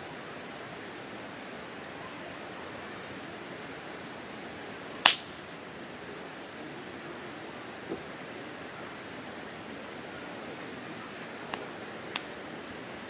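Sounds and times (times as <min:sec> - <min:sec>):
campfire hissing: 0:00.0 - 0:13.0.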